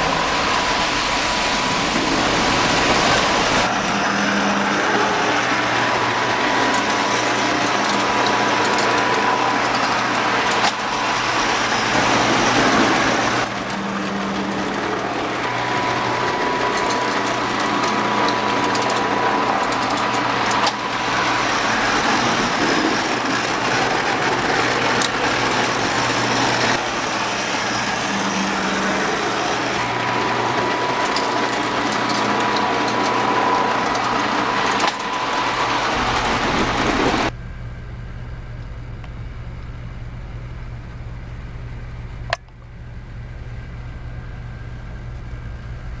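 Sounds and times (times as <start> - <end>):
toy trains rattling on tin track: 0.0 - 37.3
low steady hum: 0.0 - 46.0.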